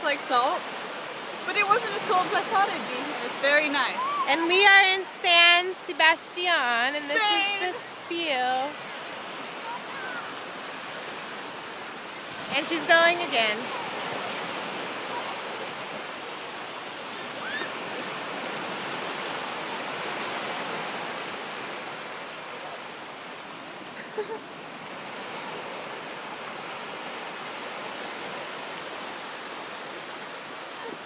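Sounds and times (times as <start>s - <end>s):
small waves breaking on beach: 0.0s - 31.0s.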